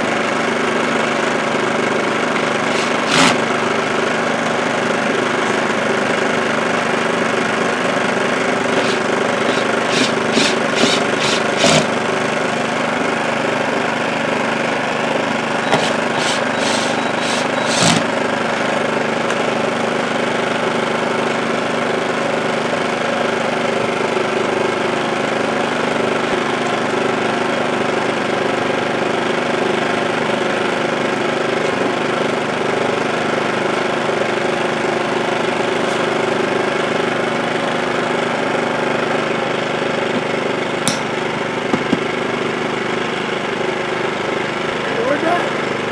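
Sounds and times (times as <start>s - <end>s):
small generator engine running: 0.0s - 45.9s.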